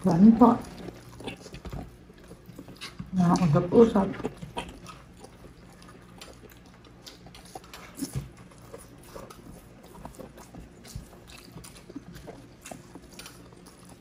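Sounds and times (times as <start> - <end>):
people chewing: 0.0 - 14.0.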